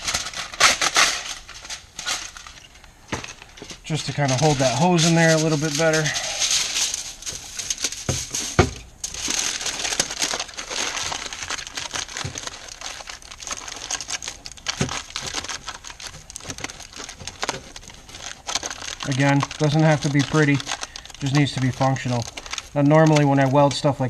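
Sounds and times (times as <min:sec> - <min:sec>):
aluminium foil crinkling: 0:00.0 - 0:24.0.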